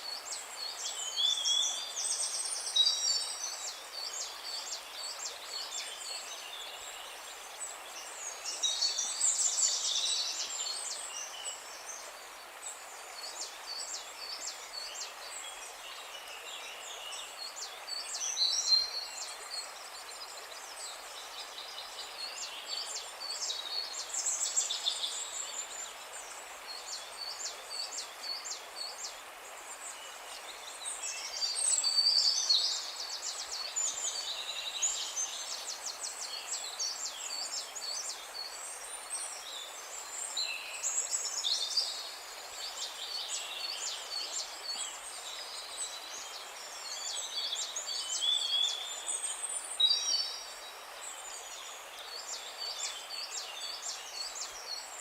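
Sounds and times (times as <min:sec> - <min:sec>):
songbirds singing and chirping: 0:00.0 - 0:55.0
steady background hiss: 0:00.0 - 0:55.0.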